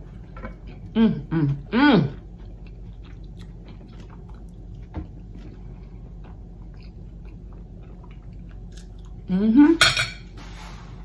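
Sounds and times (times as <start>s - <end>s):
person chewing food: 0.0s - 9.3s.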